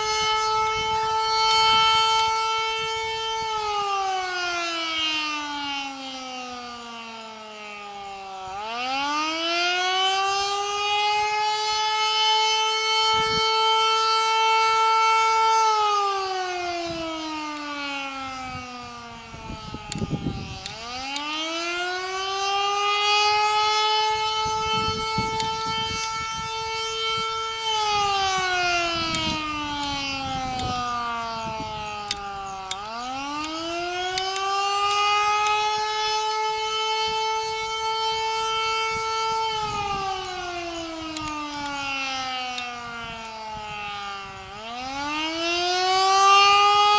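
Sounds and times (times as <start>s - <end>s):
siren wailing: 0.0s - 46.9s.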